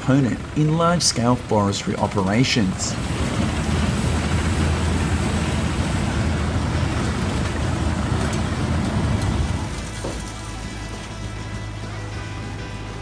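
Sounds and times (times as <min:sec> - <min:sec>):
wood chipper diesel engine drone: 0:00.0 - 0:13.0.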